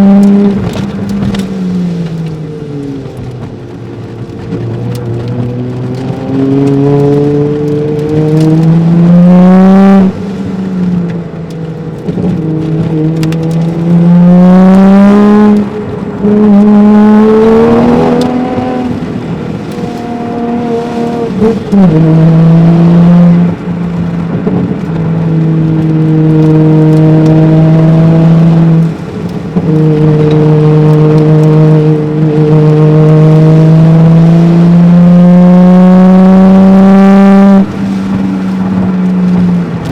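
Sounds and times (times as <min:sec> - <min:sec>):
car engine revving under hard driving: 0:00.0 - 0:39.9.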